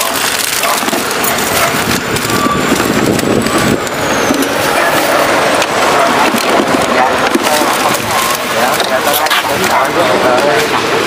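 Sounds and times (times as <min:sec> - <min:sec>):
road traffic: 0:00.0 - 0:11.0
vehicle passing with whine: 0:00.2 - 0:11.0.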